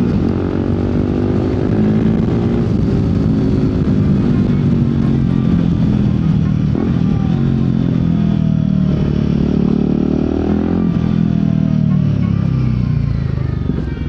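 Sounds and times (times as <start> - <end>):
motorcycle engine and exhaust: 0.0 - 14.0.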